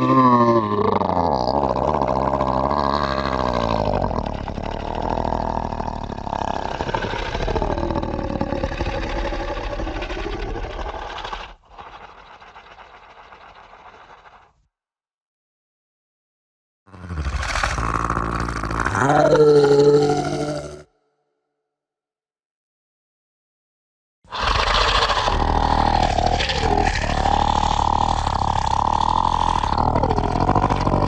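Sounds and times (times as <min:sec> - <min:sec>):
monster growl: 0:00.0 - 0:14.6, 0:16.9 - 0:20.9, 0:24.3 - 0:31.0.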